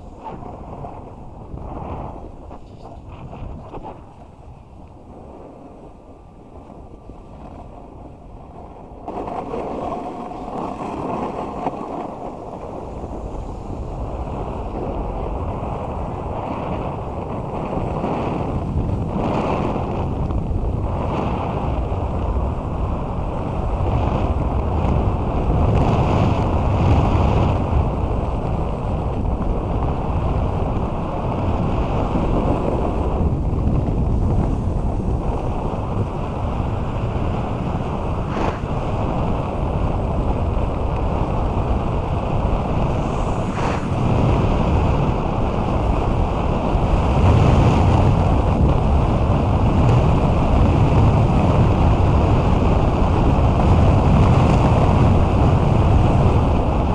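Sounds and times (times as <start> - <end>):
snowboard scraping over snow: 0.0 - 56.9
wind over microphone: 0.0 - 56.9.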